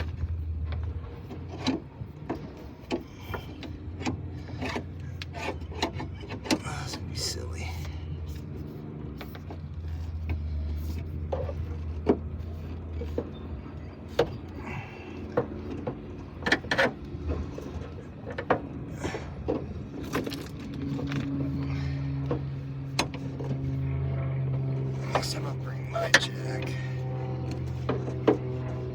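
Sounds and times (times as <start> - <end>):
steady low drone: 0.0 - 28.9.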